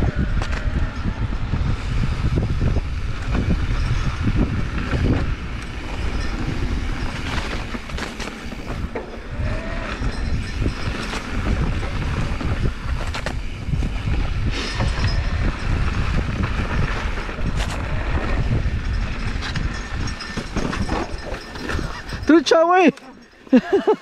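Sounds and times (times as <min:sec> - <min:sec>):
wind buffeting microphone: 0:00.0 - 0:23.9
bike clattering over bumps: 0:00.1 - 0:22.4
tyres rolling on dirt: 0:00.1 - 0:24.0.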